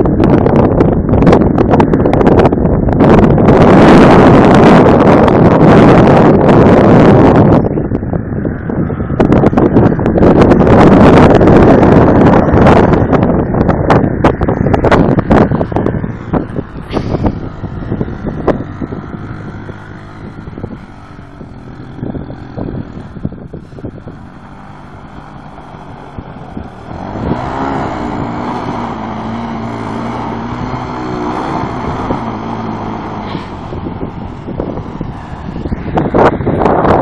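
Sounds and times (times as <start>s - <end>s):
atv engine running: 0.0s - 37.0s
wind on microphone: 0.0s - 37.0s.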